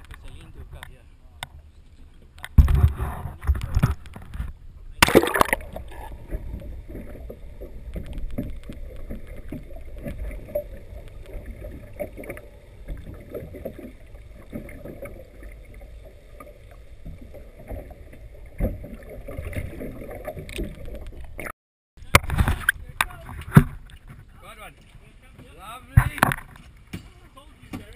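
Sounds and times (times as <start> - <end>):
underwater rumble of moving water: 0.0 - 27.9.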